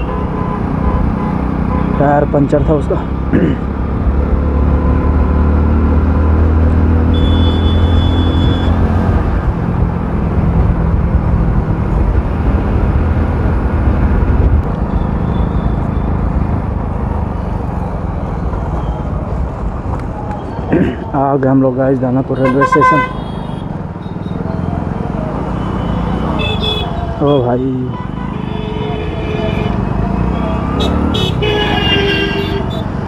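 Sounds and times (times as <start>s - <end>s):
wind and road noise: 0.0s - 33.0s.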